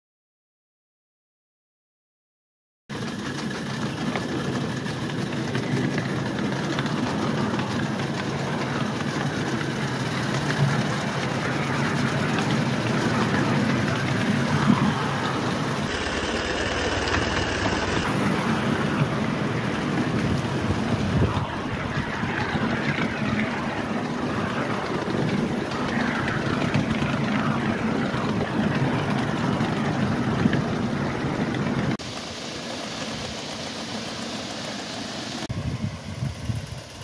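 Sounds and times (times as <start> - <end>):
steam locomotive running: 2.9 - 37.0
wheels on rails: 2.9 - 37.0.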